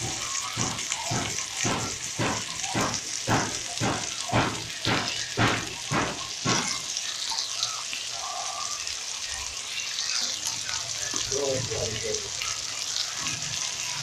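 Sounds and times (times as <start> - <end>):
beans sizzling in a pot: 0.0 - 14.0.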